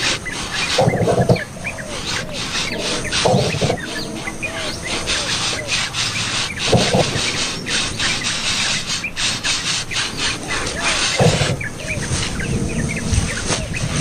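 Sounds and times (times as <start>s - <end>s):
nestlings cheeping: 0.0s - 14.0s
rustling and scratching: 0.0s - 14.0s.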